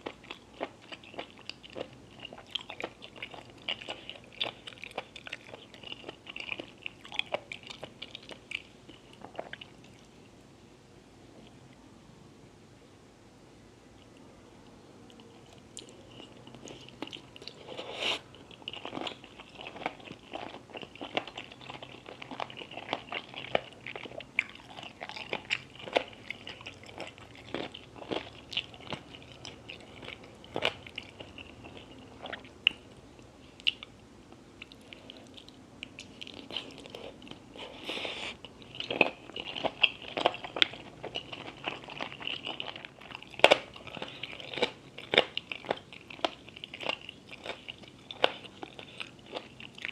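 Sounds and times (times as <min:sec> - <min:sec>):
person chewing food: 0:00.0 - 0:10.2, 0:15.1 - 0:49.9.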